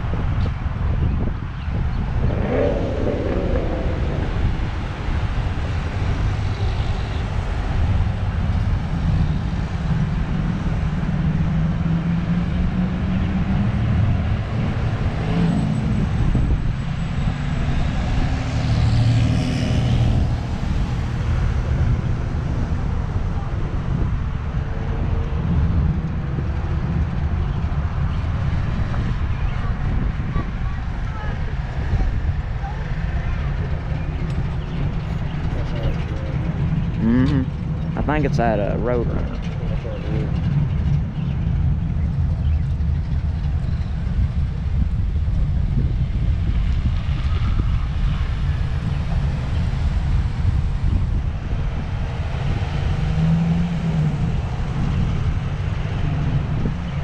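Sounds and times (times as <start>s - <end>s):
engines accelerating away: 0.0s - 57.0s
low rumble of engines and tyres: 0.0s - 57.0s
vehicles driving past: 0.0s - 57.0s.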